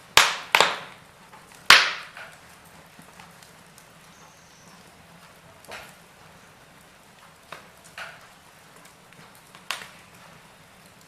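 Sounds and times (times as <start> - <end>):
fire hissing: 0.0 - 11.0
wood fire popping and snapping: 0.0 - 11.0.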